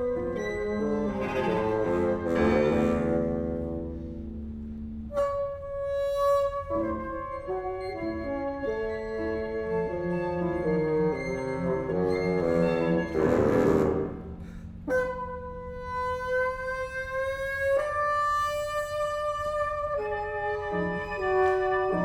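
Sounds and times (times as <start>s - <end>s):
bassoon and small ensemble: 0.0s - 22.0s.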